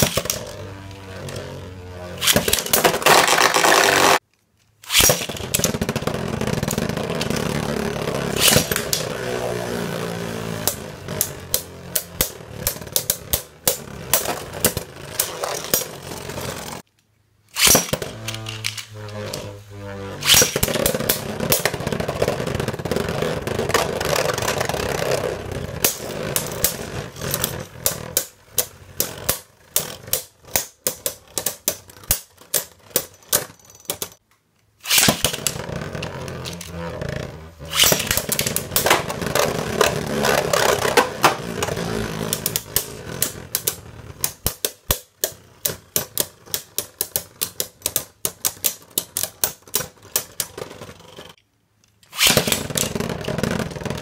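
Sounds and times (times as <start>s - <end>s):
spinning tops grinding and rattling: 0.0s - 4.2s, 4.8s - 16.8s, 17.5s - 34.2s, 34.8s - 51.4s, 52.1s - 54.0s.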